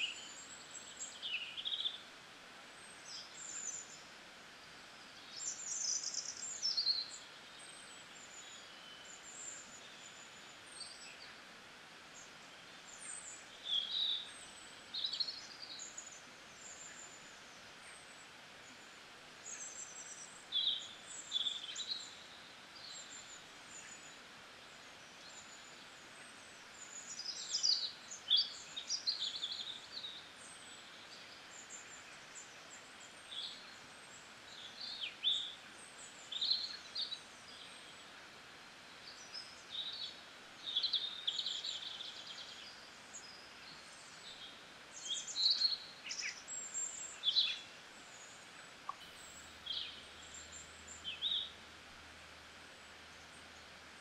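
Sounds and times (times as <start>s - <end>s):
small birds chirping: 0.0s - 54.0s
steady background hiss: 0.0s - 54.0s.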